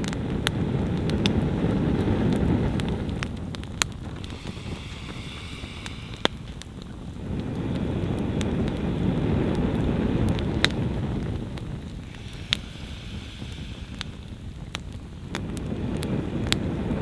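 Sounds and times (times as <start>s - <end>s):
breath blowing on fire: 0.0s - 17.0s
burning logs popping: 0.0s - 17.0s.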